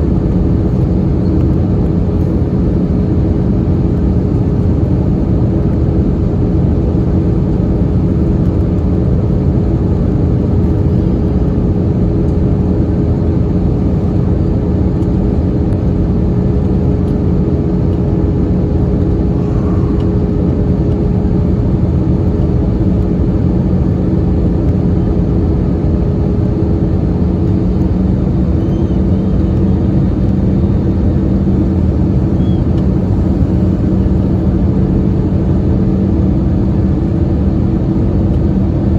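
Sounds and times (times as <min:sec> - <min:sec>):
airflow rush in aircraft cabin: 0:00.0 - 0:38.9
jet engine hum: 0:00.0 - 0:38.9.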